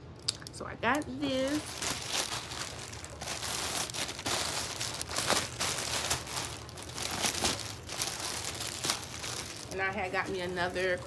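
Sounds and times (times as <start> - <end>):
plastic mailer bag crinkling: 1.2 - 11.0.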